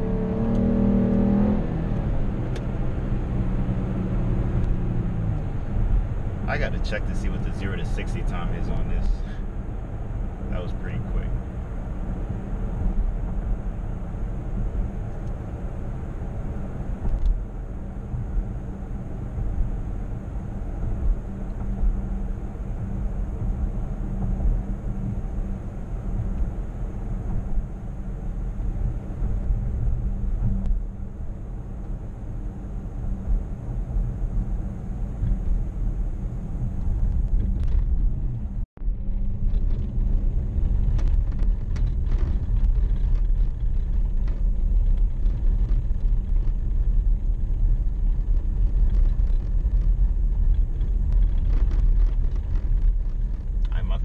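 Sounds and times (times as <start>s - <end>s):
engine and road rumble in car: 0.0s - 54.0s.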